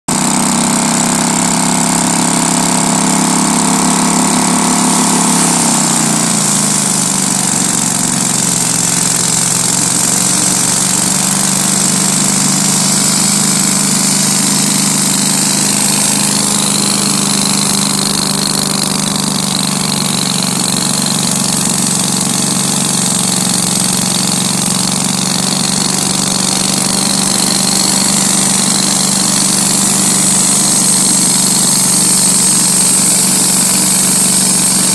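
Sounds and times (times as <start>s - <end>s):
sawmill engine running: 0.1s - 34.9s.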